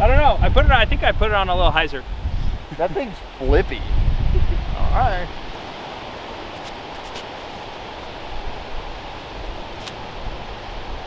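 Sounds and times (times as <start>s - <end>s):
gusty wind on microphone: 0.0s - 11.0s.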